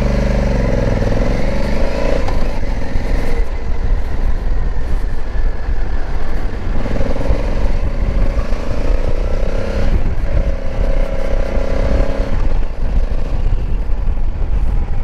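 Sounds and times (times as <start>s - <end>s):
low rumble of wind noise: 0.0s - 15.0s
motorcycle engine running: 0.0s - 15.0s.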